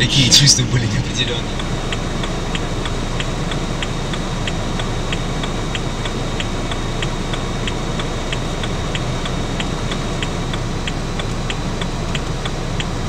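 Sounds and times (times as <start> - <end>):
car engine idling: 0.0 - 13.0
indicator relay ticking: 0.0 - 13.0.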